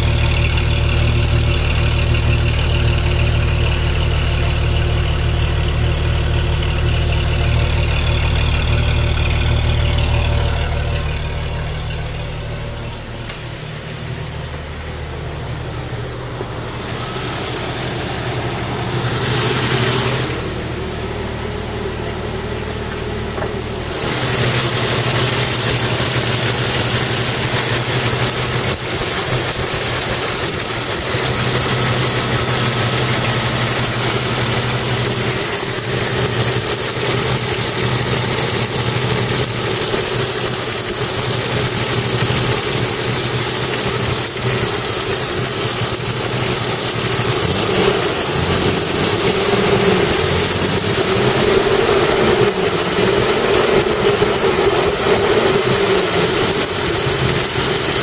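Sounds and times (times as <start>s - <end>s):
car engine idling tappety: 0.0s - 58.0s.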